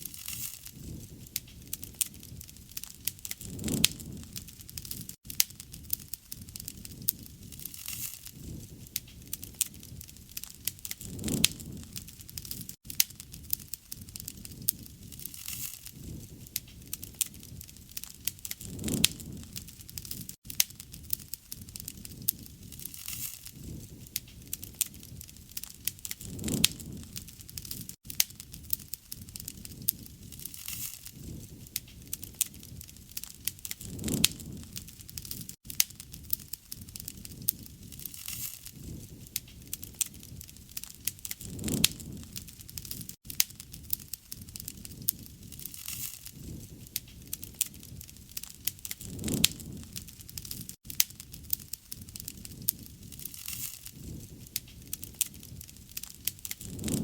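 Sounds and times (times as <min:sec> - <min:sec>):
low rushing of flame: 0:00.0 - 0:57.0
wood fire crackling and popping: 0:00.0 - 0:57.0.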